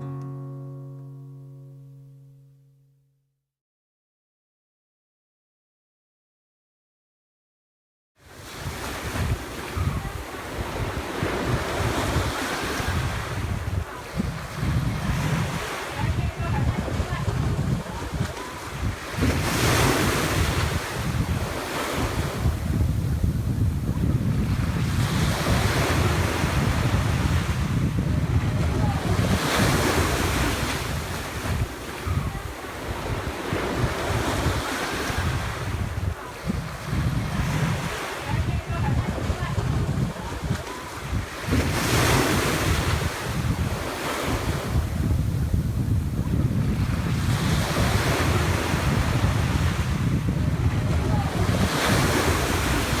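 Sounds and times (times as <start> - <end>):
surf washing onto beach: 8.3 - 53.0
wind buffeting microphone: 8.3 - 53.0.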